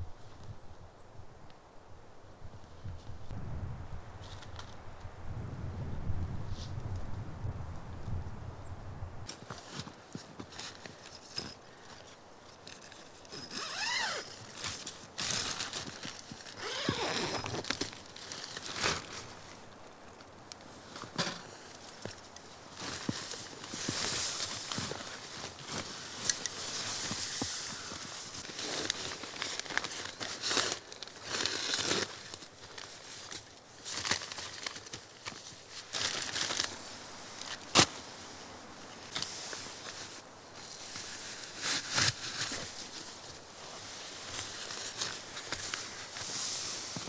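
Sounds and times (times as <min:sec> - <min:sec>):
tent gear rustling: 0:09.3 - 0:47.0.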